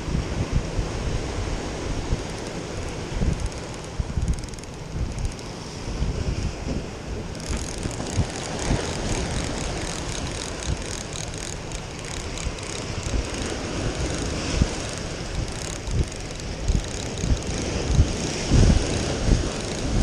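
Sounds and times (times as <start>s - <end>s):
wind buffeting microphone: 0.0s - 20.0s
light rapid clicking: 2.1s - 5.6s, 7.2s - 20.0s.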